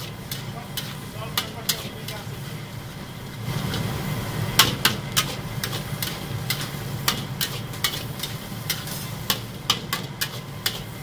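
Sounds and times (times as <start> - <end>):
gas burner roaring: 0.0 - 11.0
metal spatula scraping a wok: 0.0 - 11.0.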